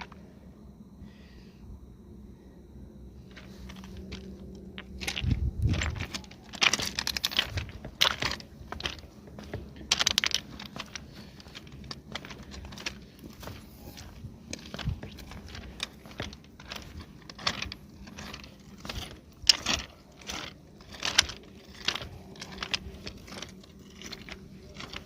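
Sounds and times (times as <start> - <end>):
faint low hum: 0.0 - 25.0
crunching and rustling: 3.2 - 25.0.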